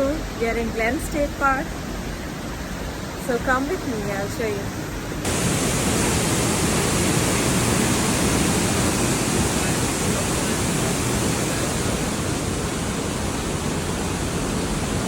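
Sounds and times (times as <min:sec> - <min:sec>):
waterfall rushing: 0:01.4 - 0:15.0.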